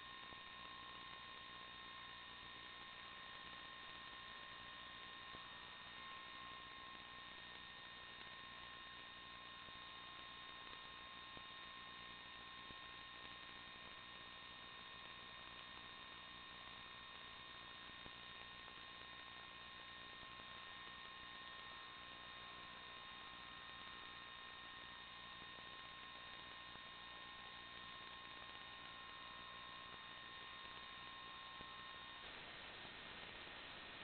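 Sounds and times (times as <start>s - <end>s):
electrical hum and hiss: 0.0s - 34.0s.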